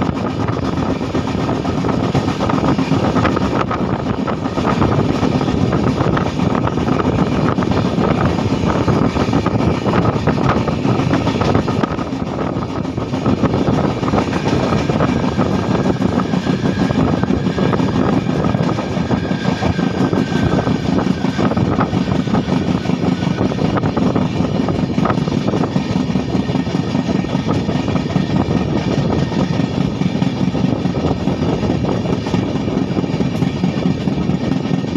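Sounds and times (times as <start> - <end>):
rushing air: 0.0 - 34.9
train wheels rumbling on rails: 0.0 - 34.9.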